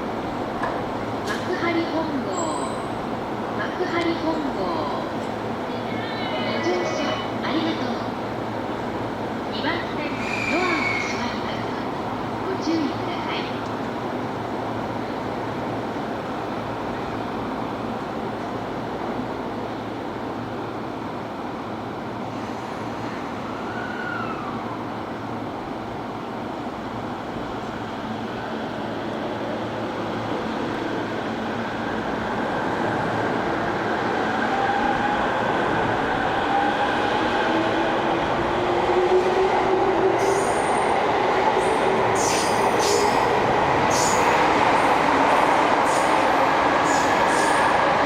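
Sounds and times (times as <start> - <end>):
electric train rumbling: 0.0 - 48.0.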